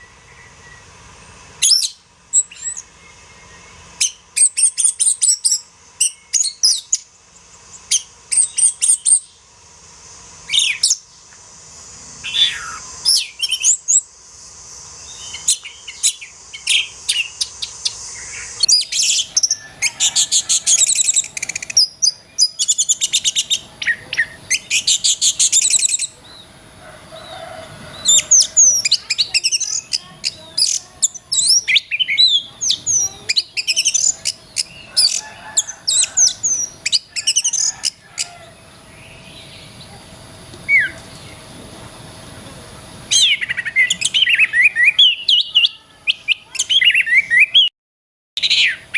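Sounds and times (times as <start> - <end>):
songbird chirps and trills: 0.0 - 47.7.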